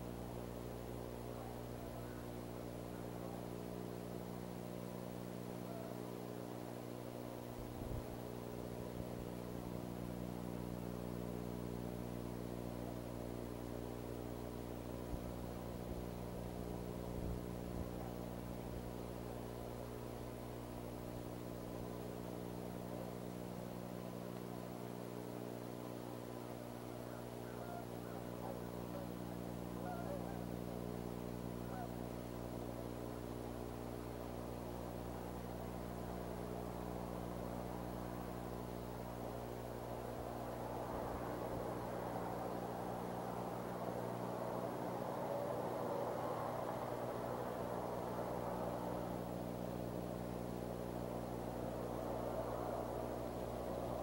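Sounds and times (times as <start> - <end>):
low electrical hum: 0.0 - 54.0
steady hiss: 0.0 - 54.0.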